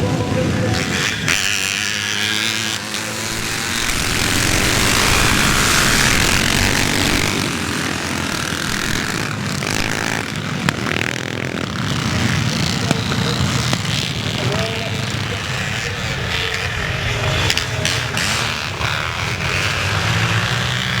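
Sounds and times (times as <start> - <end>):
motocross bikes at full throttle: 0.0 - 21.0.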